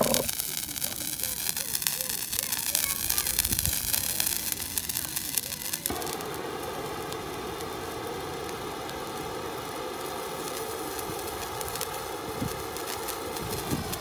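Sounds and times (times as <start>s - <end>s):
spray firework crackling and hissing: 0.0s - 14.0s.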